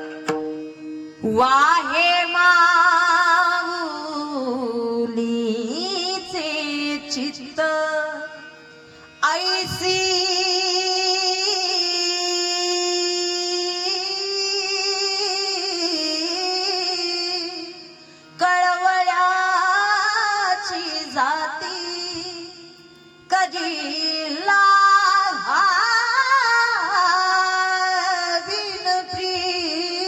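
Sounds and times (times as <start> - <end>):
woman singing: 1.2 - 8.5, 9.2 - 30.0.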